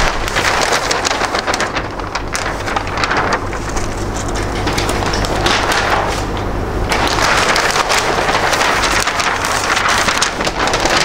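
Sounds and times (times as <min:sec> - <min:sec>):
large paper sheets rustling: 0:00.0 - 0:11.0.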